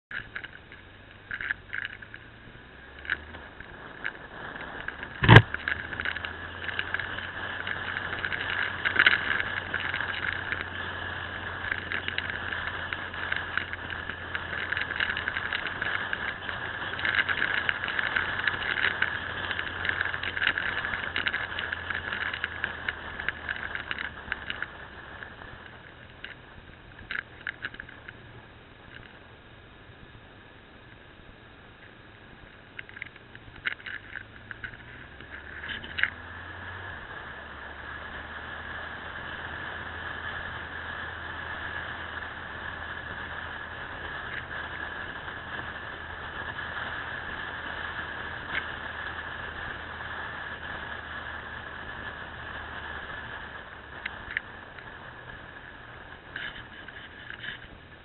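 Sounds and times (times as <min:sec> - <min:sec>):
motorcycle engine hum: 0:00.0 - 0:58.0
wind noise: 0:00.0 - 0:58.0
rattle: 0:00.1 - 0:31.1, 0:31.7 - 0:58.0.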